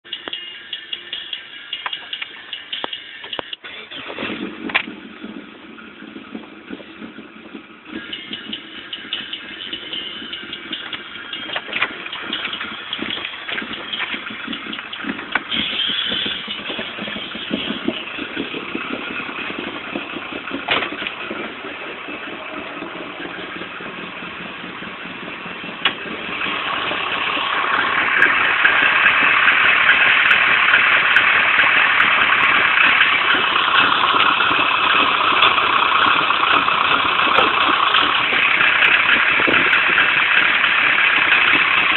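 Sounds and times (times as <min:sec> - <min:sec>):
car engine idling roughly: 0:00.0 - 0:41.9.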